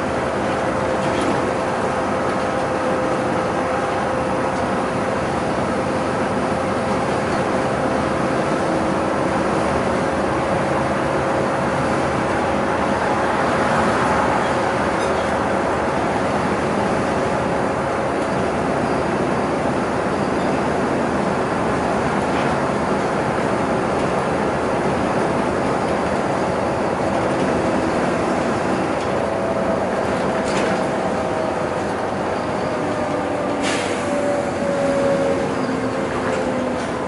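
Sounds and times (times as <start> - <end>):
bus engine and tyre drone: 0.0 - 37.0.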